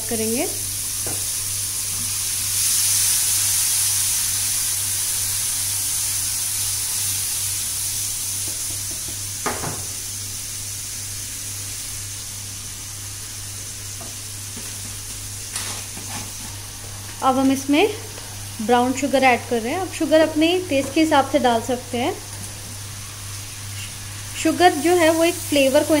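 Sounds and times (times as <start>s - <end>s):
garlic sizzling in hot oil: 0.0s - 26.0s.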